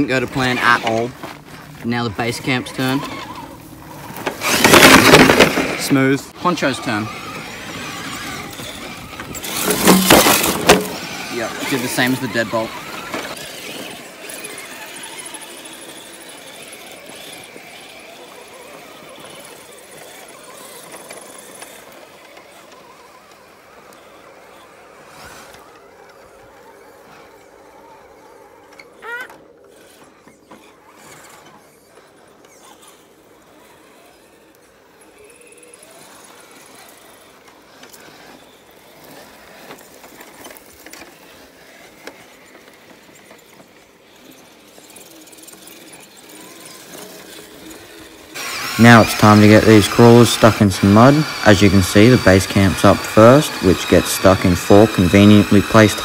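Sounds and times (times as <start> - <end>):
small electric motor whirring: 0.0 - 56.0.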